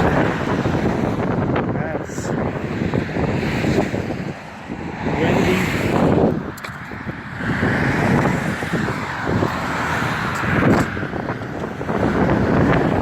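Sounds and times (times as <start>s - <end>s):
gusty wind on microphone: 0.0s - 13.0s.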